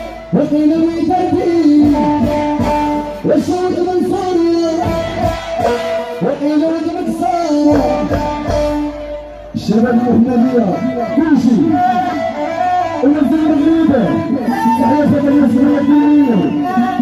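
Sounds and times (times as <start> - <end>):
band music with sliding melody: 0.0 - 17.0.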